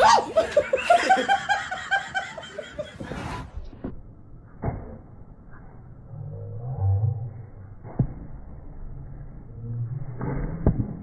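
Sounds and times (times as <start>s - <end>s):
low hum: 0.7s - 11.0s.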